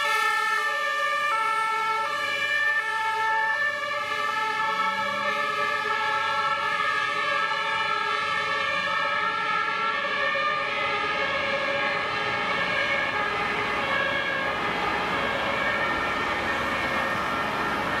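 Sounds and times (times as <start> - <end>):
fire engine sirens: 0.0 - 18.0.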